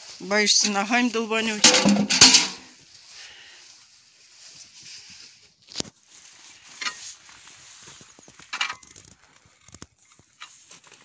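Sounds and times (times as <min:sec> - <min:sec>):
straw rustling and crunching: 0:00.0 - 0:11.0.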